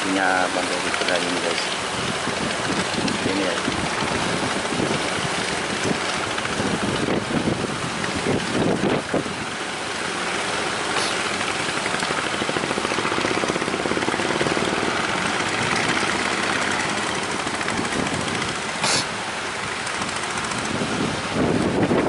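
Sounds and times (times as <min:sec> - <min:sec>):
small engine chugging: 0:00.0 - 0:09.3, 0:10.0 - 0:20.9
wind noise on microphone: 0:00.9 - 0:10.2, 0:10.8 - 0:22.0.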